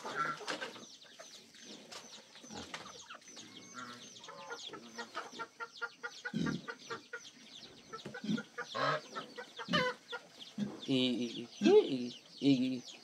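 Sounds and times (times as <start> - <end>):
high falling chicken calls: 0.0 - 11.9
chickens clucking: 0.0 - 13.0.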